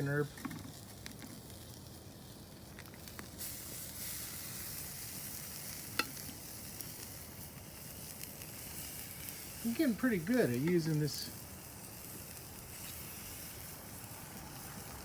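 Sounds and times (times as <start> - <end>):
chicken sizzling on a grill: 0.0 - 15.0.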